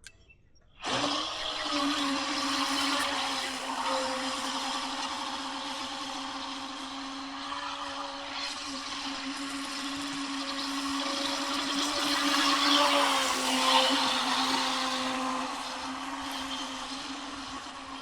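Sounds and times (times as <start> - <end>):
electric boat motor whining: 0.8 - 18.0.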